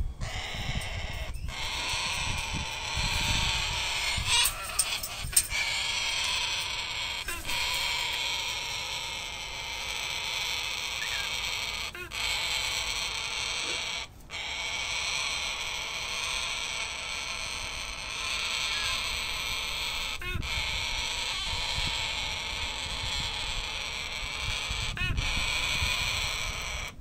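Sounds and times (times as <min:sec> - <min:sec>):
parrot screaming: 0:00.2 - 0:27.0.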